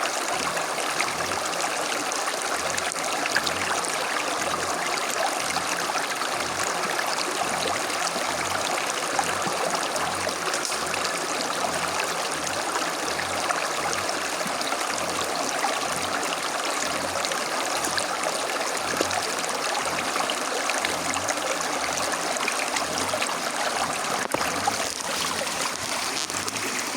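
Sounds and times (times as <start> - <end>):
stream running over stones: 0.0 - 26.9.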